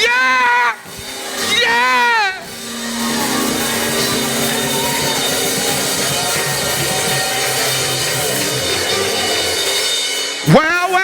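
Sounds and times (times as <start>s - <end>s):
band playing praise music: 0.0s - 11.0s.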